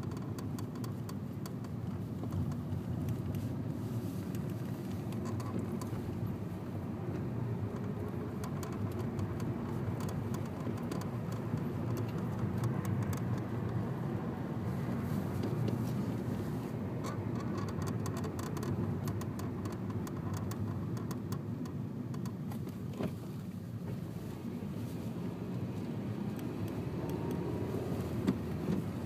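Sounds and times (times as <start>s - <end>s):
clutch clicking: 0.0s - 24.0s, 25.5s - 29.0s.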